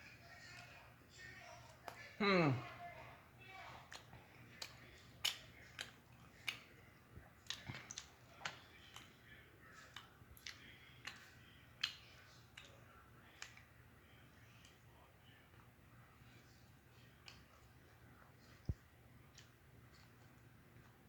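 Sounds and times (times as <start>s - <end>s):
person chewing food: 3.5s - 21.0s.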